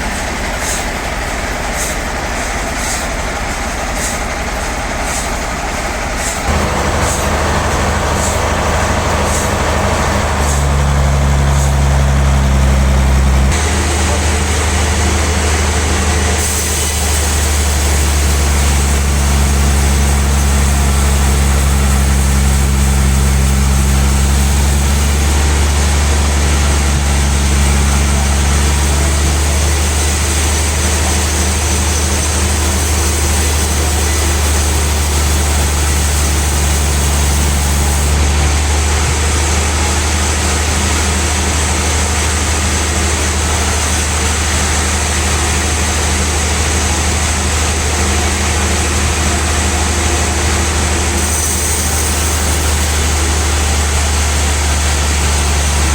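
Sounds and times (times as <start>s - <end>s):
band saw humming: 5.0s - 55.9s.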